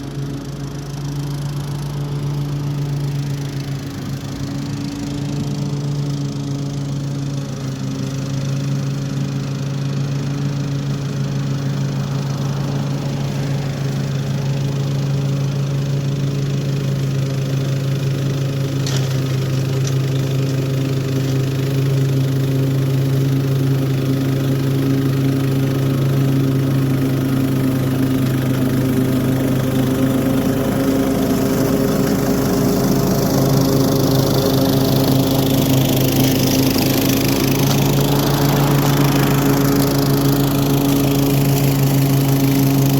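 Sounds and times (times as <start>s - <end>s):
lawn mower running: 0.0s - 42.9s.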